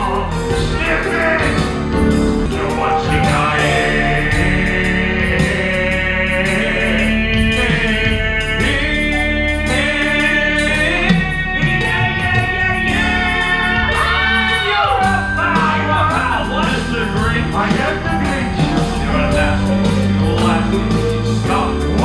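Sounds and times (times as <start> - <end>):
instrumental backing music: 0.0 - 22.0.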